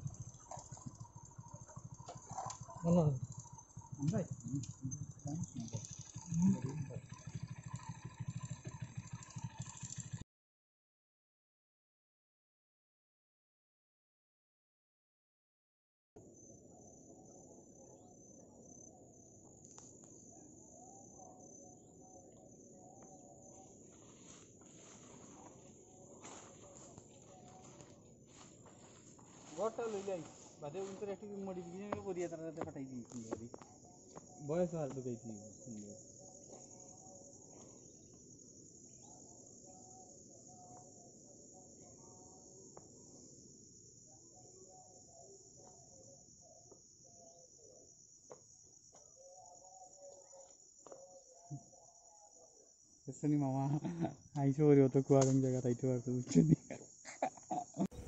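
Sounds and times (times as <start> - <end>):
high-pitched insect trill: 0.0 - 10.2, 16.2 - 58.0.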